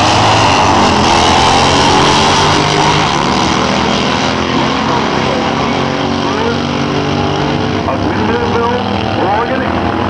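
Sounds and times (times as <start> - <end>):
motorcycles at full throttle: 0.0 - 10.0.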